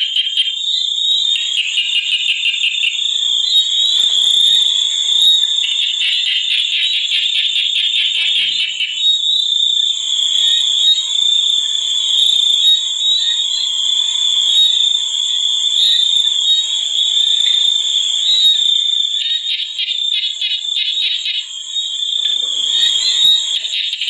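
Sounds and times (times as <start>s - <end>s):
insect pulsing trill: 0.0s - 24.0s
insects droning: 0.0s - 24.0s.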